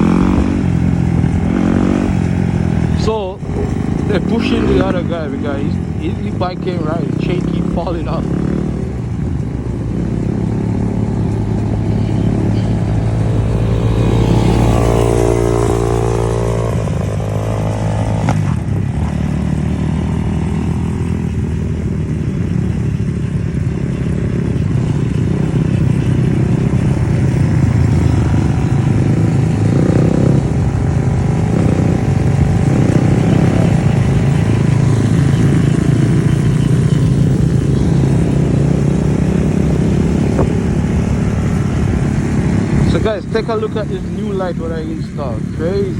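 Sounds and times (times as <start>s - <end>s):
dirt bike engines running: 0.0s - 45.9s.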